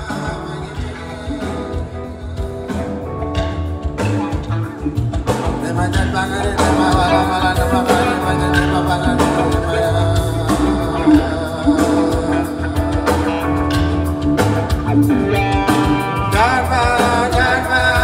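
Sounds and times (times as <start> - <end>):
person singing: 0.0 - 4.0, 5.3 - 18.0
drum beat: 0.0 - 18.0
live band playing: 0.0 - 18.0.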